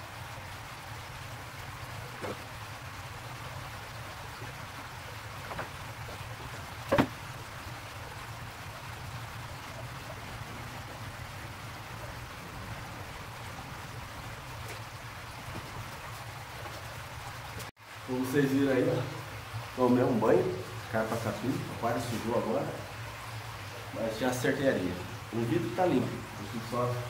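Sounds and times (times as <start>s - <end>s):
aquarium water rushing and trickling: 0.0s - 27.0s.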